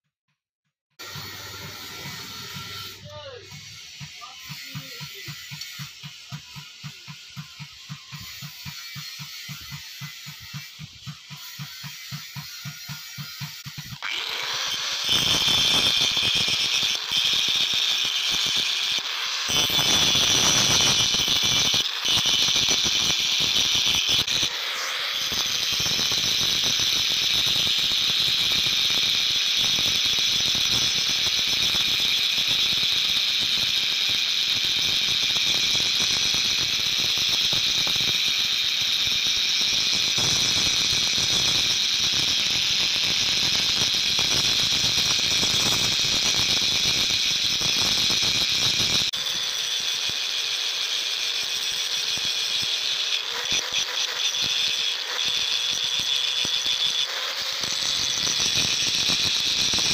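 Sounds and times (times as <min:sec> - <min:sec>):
angle grinder grinding steel: 0:01.0 - 0:59.9.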